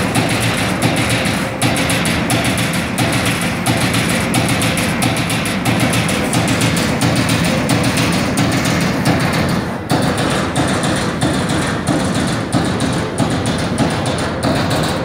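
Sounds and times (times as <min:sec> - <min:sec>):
loud music with drum beat: 0:00.0 - 0:14.8.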